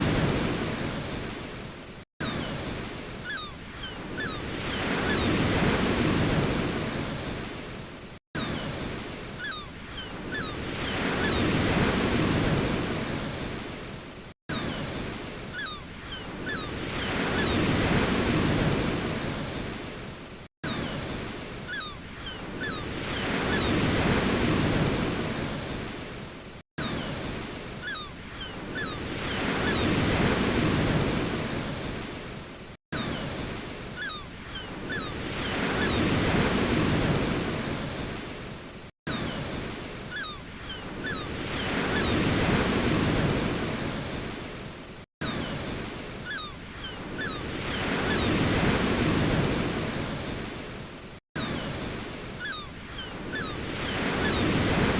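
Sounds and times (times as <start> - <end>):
ocean waves surging: 0.0 - 32.5, 33.1 - 38.6, 39.2 - 54.9.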